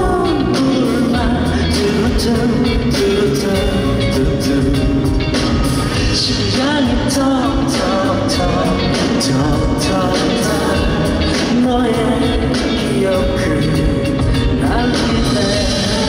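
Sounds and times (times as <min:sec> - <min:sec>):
band playing: 0:00.0 - 0:16.0
person singing: 0:00.0 - 0:16.0.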